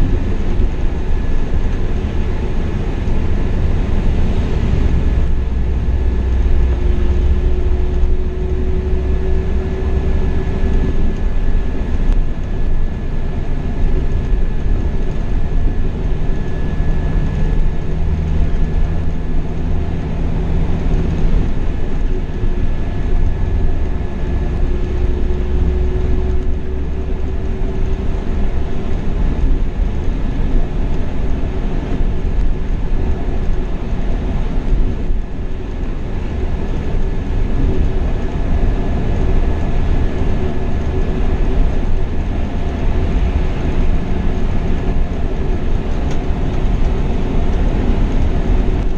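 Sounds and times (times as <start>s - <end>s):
coach engine rumble on highway: 0.0s - 48.9s.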